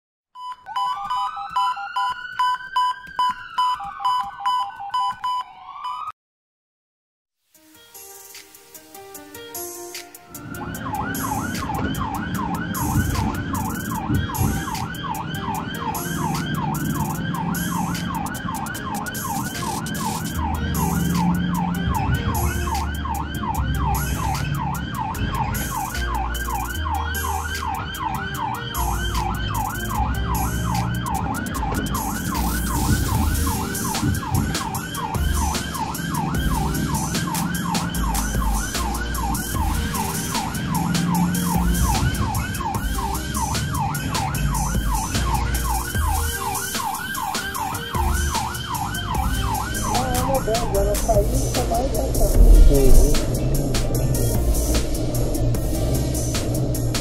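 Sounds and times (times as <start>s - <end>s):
ambulance siren yelping: 0.4s - 6.1s, 10.2s - 57.0s.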